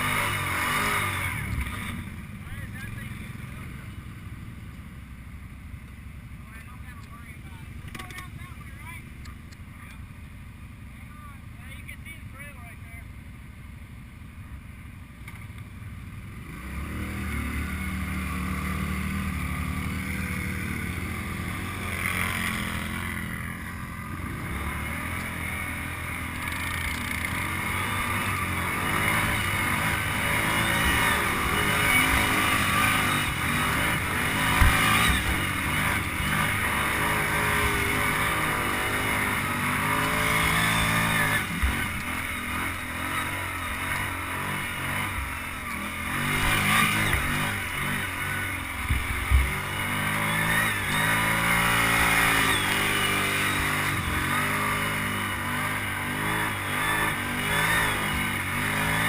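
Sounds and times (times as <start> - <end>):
atv engine under load: 0.0 - 12.4, 13.0 - 59.0.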